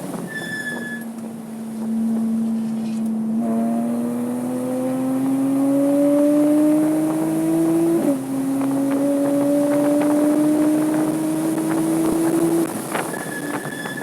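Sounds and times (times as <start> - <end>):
car engine accelerating: 0.9 - 14.0.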